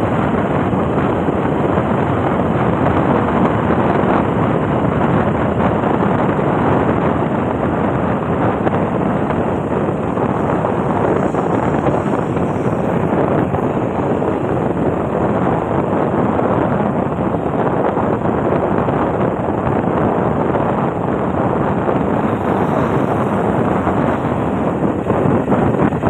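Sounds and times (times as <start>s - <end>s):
vehicle road and engine noise: 0.0s - 26.0s
wind buffeting microphone: 0.0s - 26.0s.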